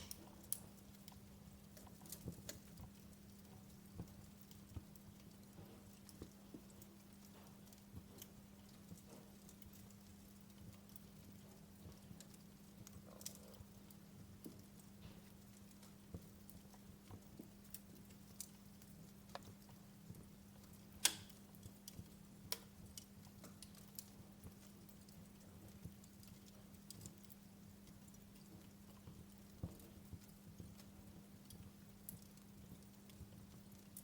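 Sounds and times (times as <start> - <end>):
wood fire crackling in fireplace: 0.0 - 34.0.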